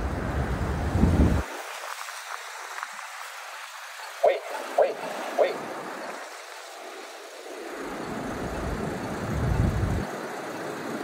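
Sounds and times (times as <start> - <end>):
low traffic rumble: 0.0 - 11.0
tyres hissing on wet pavement: 0.0 - 11.0.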